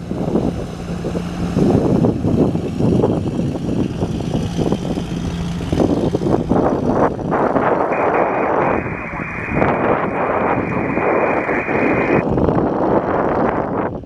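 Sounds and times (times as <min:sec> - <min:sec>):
propeller plane engine running: 0:00.0 - 0:14.0
wind buffeting microphone: 0:00.0 - 0:14.0.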